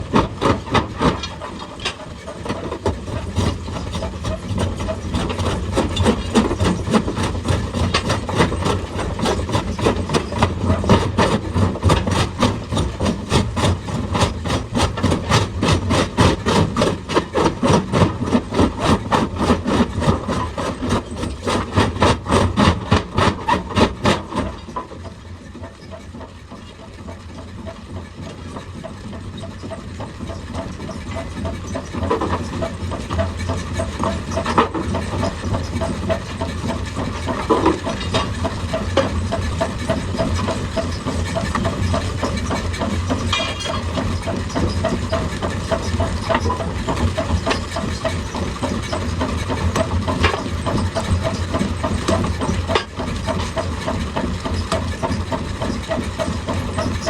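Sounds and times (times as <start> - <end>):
excavator engine running: 0.0 - 57.0
hydraulic breaker hammering stone: 0.1 - 25.1, 29.4 - 57.0.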